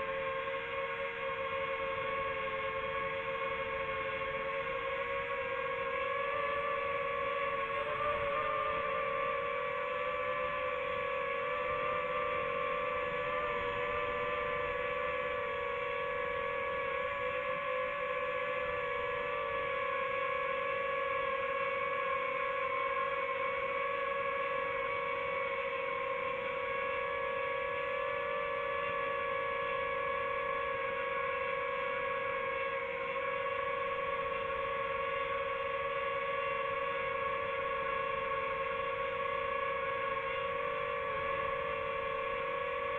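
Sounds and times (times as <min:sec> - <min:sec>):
drone propellers whining: 0:00.0 - 0:42.9.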